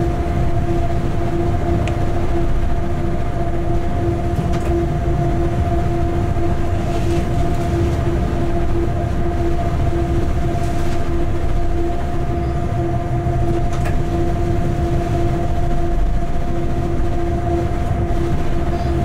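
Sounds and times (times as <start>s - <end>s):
locomotive wheels rumbling: 0.0s - 19.0s.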